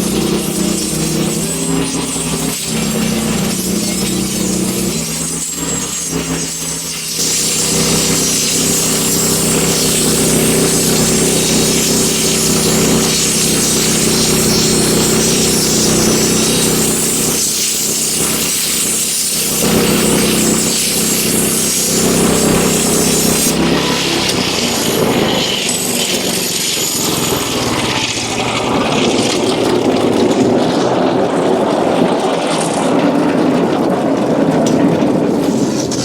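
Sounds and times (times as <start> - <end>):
band blade sawing wood: 0.0 - 31.0
sawmill engine humming: 0.0 - 36.0.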